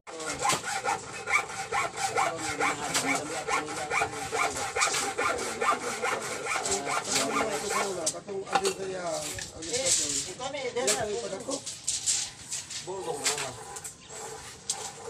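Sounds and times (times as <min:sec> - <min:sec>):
rhythmic rasping strokes: 0:00.1 - 0:08.2, 0:09.0 - 0:15.0.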